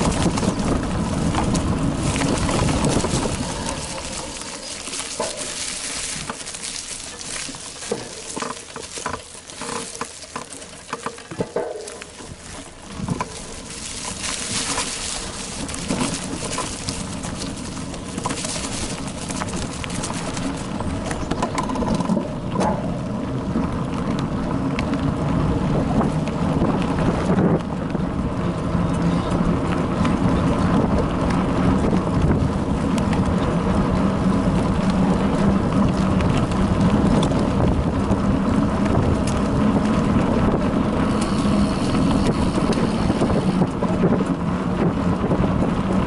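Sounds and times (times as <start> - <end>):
bike rattling and clicking: 0.0 - 46.0
rushing rumbling noise: 0.0 - 46.0
tyres crunching through dry leaves: 0.0 - 46.0.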